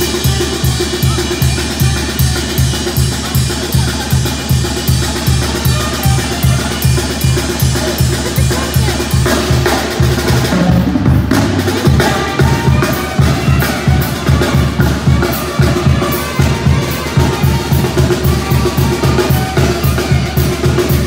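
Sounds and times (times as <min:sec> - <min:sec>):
bass drum and snare beat: 0:00.0 - 0:21.0
brass band playing: 0:00.0 - 0:21.0.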